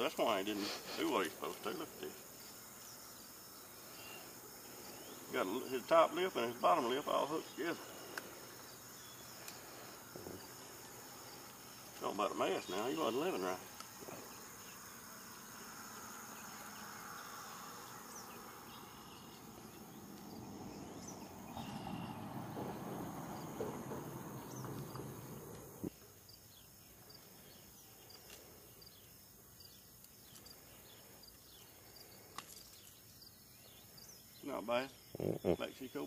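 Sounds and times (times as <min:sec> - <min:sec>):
insect chirring: 0:00.0 - 0:36.0.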